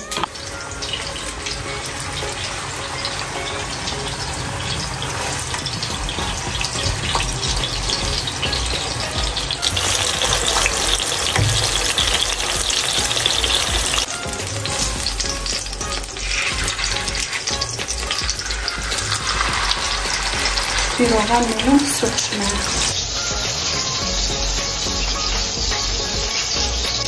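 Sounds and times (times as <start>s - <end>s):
spatula turning patties in pan: 0.0s - 23.8s
patties sizzling in oil: 0.0s - 27.0s.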